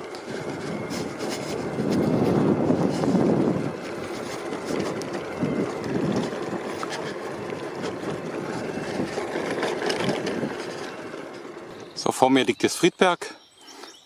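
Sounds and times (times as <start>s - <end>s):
bike rattles and knocks: 0.0s - 12.3s
tyre and road noise: 0.0s - 13.1s.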